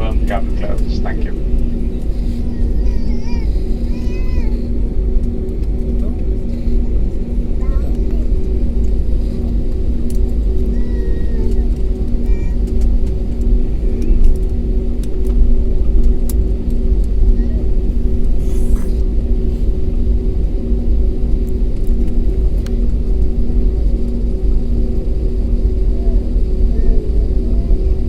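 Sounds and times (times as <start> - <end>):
aircraft rolling rumble: 0.0 - 28.0
jet engine hum: 0.0 - 28.0.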